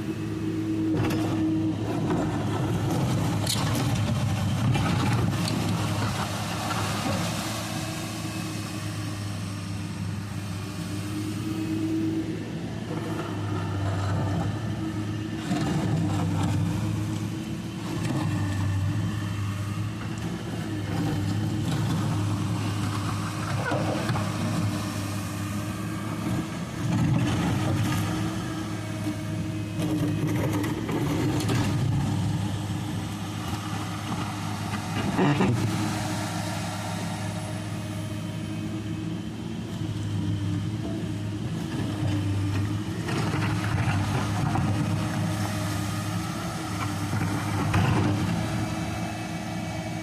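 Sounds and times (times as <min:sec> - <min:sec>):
excavator diesel engine droning: 0:00.0 - 0:50.0.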